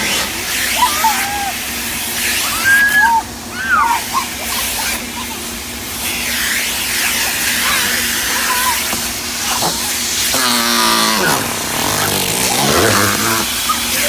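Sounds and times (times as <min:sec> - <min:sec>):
car wash water spray and machinery: 0:00.0 - 0:14.0
drawn-out falling vocal sound: 0:00.0 - 0:14.0.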